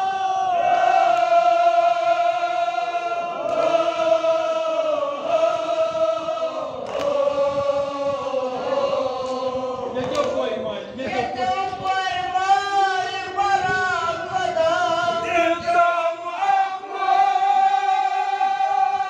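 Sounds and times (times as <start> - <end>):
men chanting a mourning elegy: 0.0 - 19.0.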